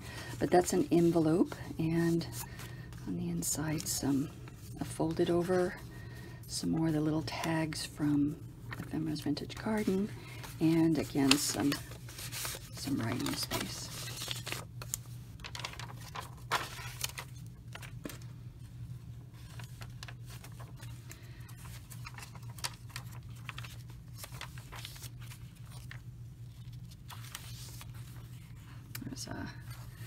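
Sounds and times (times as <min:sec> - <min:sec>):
paper pages rustling and crinkling: 0:00.0 - 0:05.9, 0:06.8 - 0:30.0.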